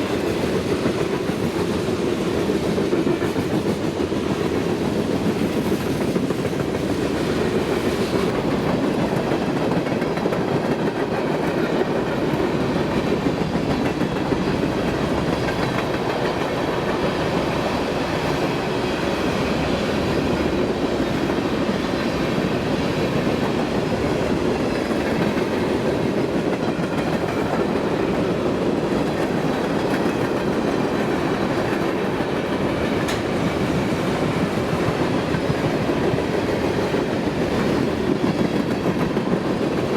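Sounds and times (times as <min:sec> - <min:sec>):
freight train cars rolling: 0:00.0 - 0:39.9
wheels clacking over rail joints: 0:02.5 - 0:39.9.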